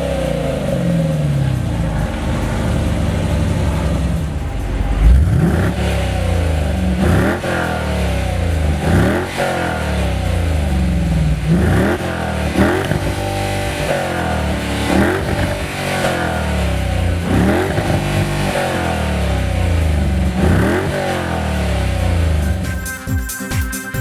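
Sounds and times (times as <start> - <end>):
car engine revving: 0.0 - 22.7.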